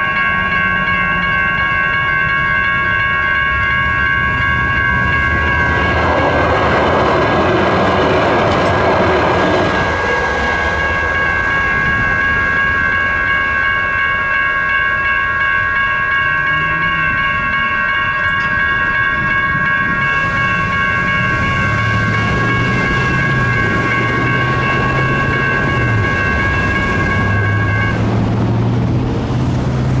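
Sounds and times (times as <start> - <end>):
railroad crossing bells ringing: 0.0 - 30.0
train passing: 0.0 - 30.0.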